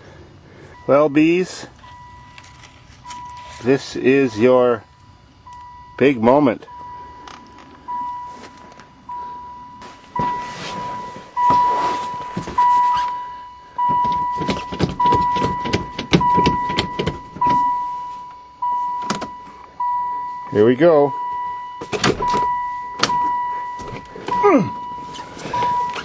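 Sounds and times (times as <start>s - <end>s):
vehicle warning chime: 0.6s - 26.0s.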